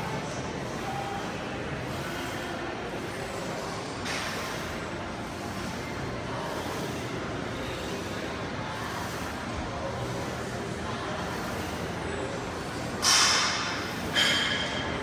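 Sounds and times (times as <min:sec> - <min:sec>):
gym background din: 0:00.0 - 0:15.0.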